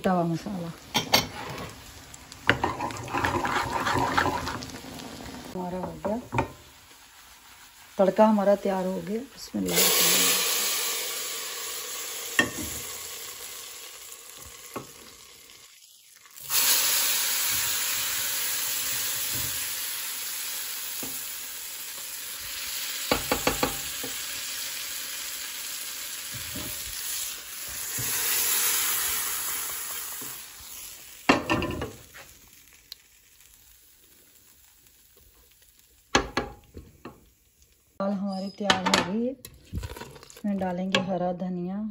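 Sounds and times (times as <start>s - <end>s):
ghee sizzling: 0.0s - 40.9s.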